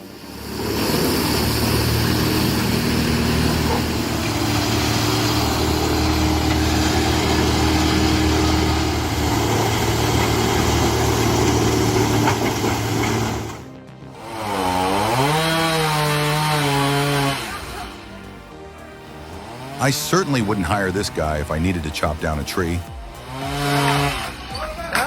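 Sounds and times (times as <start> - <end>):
large machine engine running: 0.0 - 24.5.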